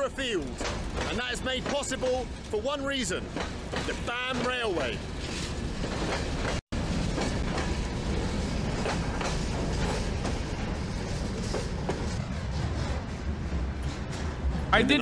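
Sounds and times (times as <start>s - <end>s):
freight train wheels clacking: 0.0s - 15.0s.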